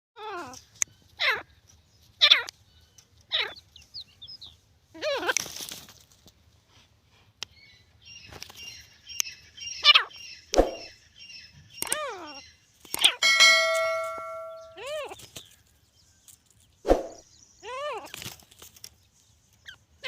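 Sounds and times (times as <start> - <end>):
small birds twittering: 0.2 - 5.7, 7.3 - 20.0.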